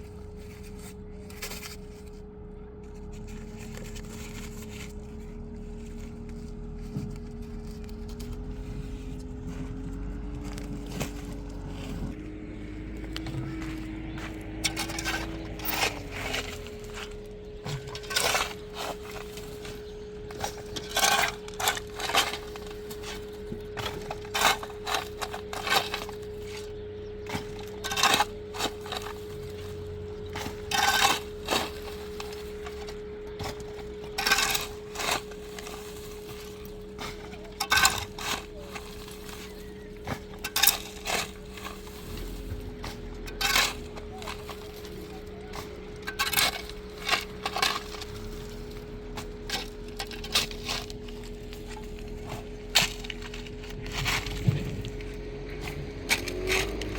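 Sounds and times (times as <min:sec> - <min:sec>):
low drone: 0:00.0 - 0:56.9
steady hum: 0:00.0 - 0:56.9.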